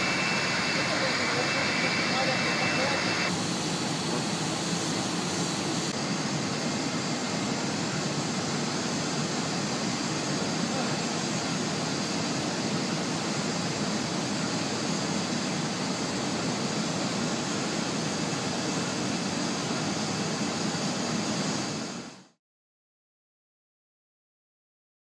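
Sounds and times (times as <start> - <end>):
jet aircraft rushing hiss: 0.0 - 22.4.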